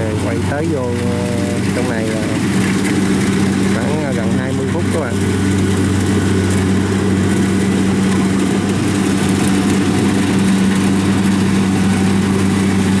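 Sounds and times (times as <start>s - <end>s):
combine harvester engine humming: 0.0s - 13.0s.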